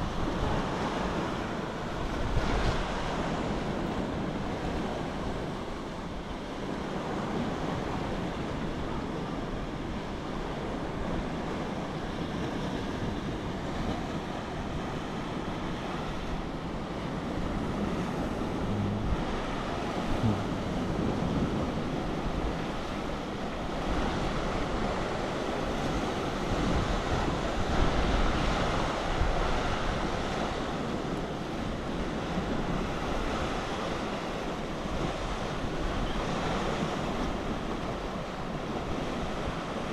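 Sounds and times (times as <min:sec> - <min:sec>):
sea surf washing on shore: 0:00.0 - 0:39.9
wind rumbling on microphone: 0:00.0 - 0:39.9.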